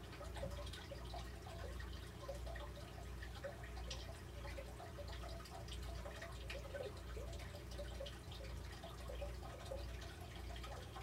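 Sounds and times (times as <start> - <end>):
low steady hum: 0.0 - 11.0
water dripping and trickling: 0.0 - 11.0.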